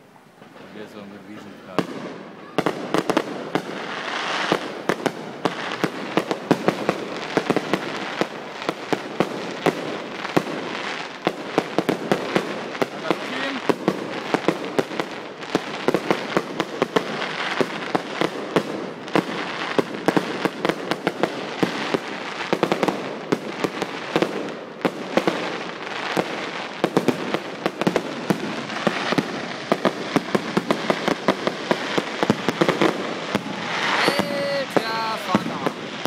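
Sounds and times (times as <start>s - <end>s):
fireworks bangs: 0.0s - 36.0s
fireworks crackle: 0.0s - 36.0s.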